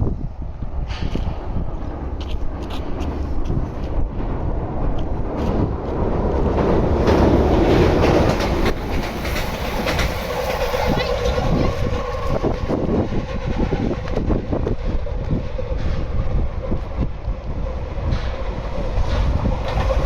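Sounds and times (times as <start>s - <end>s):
steady train hum: 0.0s - 20.0s
train wheels clattering on rail joints: 0.6s - 20.0s.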